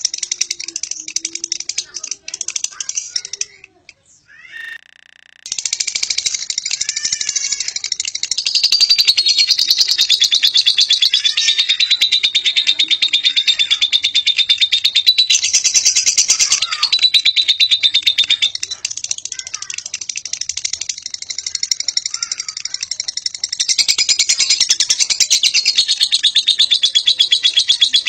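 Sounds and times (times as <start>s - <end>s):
lovebird chattering trill: 0.0s - 28.0s.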